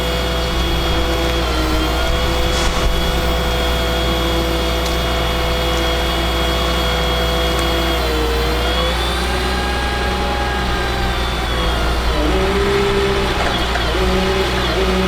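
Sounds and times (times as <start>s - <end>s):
diesel truck engine running: 0.0s - 15.0s
engine whine: 0.0s - 15.0s.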